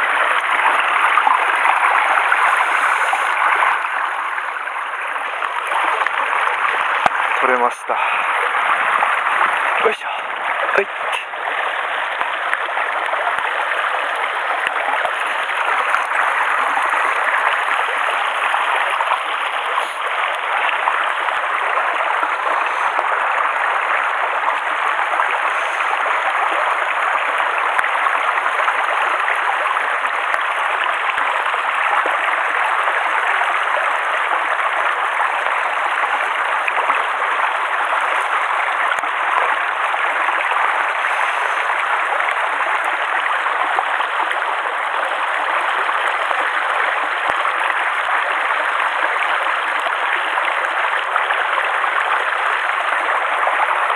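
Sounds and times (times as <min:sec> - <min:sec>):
stream rushing over stones: 0:00.0 - 0:53.9.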